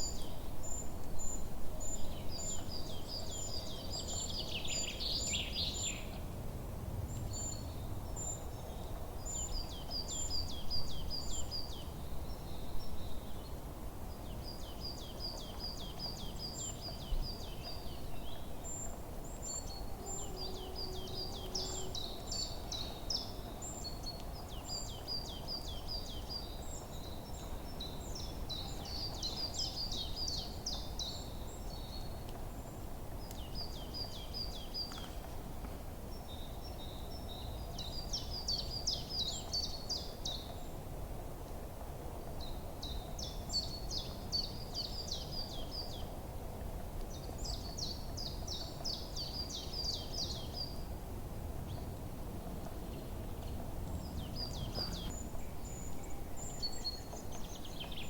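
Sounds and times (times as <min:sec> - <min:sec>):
songbirds chirping: 0:00.0 - 0:06.4, 0:07.0 - 0:58.0.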